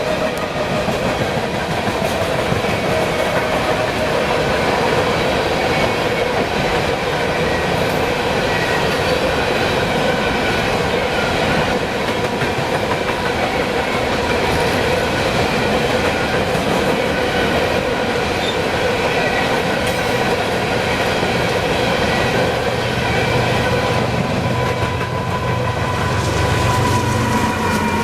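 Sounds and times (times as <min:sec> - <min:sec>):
freight train rumbling past: 0:00.0 - 0:28.0
high ringing from train wheels: 0:00.0 - 0:28.0.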